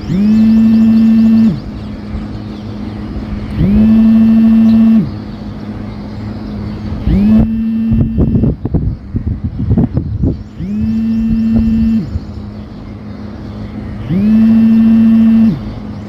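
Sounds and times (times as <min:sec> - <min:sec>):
traffic hum: 0:00.0 - 0:16.0.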